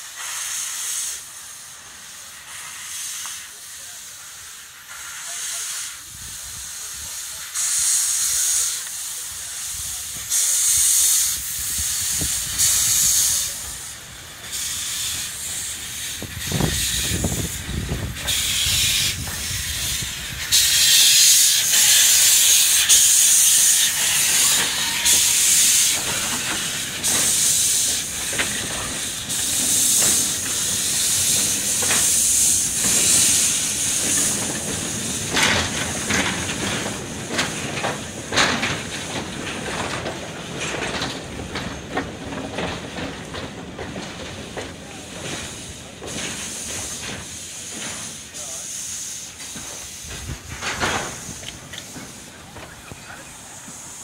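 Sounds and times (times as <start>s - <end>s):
steam locomotive hissing: 0.0s - 54.0s
train rumbling past: 0.0s - 54.0s.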